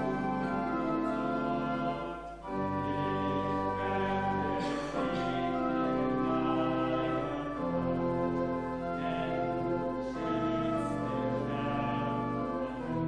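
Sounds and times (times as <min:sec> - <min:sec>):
church organ playing hymn chords: 0:00.0 - 0:13.0.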